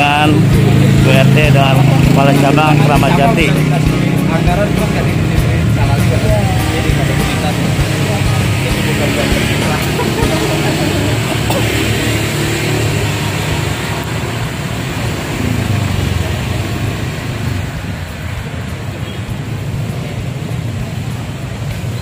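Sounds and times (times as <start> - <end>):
vehicle engines humming: 0.0 - 22.0.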